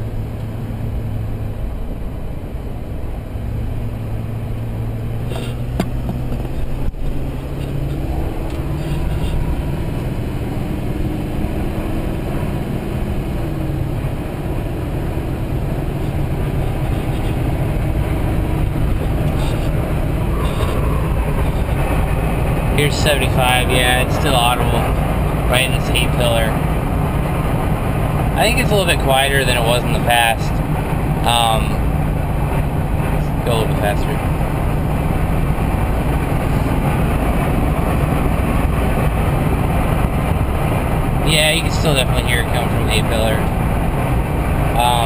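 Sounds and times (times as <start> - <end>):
diesel engine drone accelerating: 0.0 - 45.0
road and wind noise: 0.0 - 45.0.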